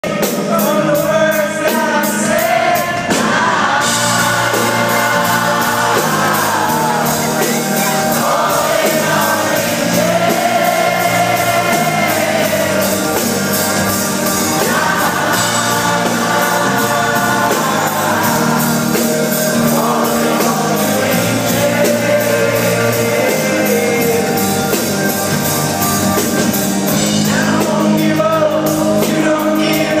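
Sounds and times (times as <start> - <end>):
man singing lead: 0.0 - 25.3, 26.9 - 30.0
drums: 0.0 - 30.0
live pop rock band: 0.0 - 30.0.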